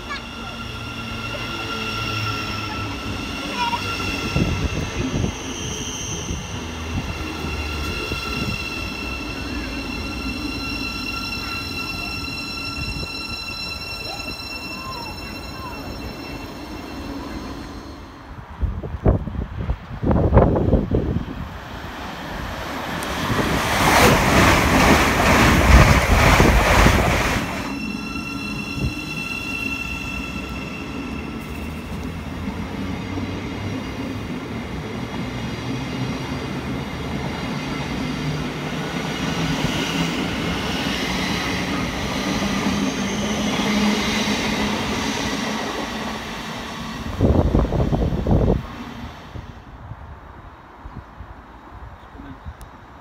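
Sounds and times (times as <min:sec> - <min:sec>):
train wheels rushing on rail: 0:00.0 - 0:51.3
train high whine: 0:00.0 - 0:51.8.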